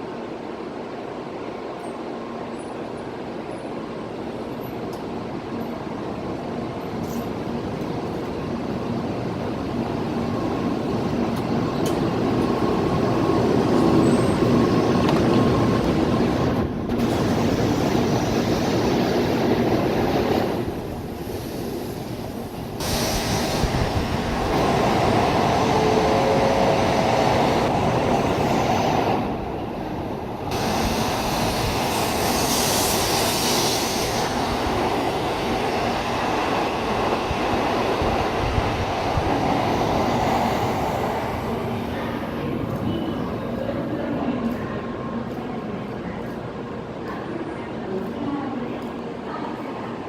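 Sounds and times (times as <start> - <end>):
train rolling past: 0.0 - 50.0.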